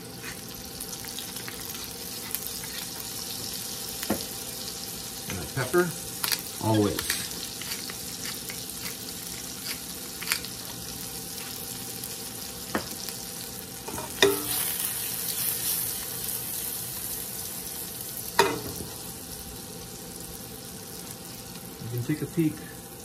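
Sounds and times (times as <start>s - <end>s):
mushrooms sizzling in butter: 0.0s - 23.0s.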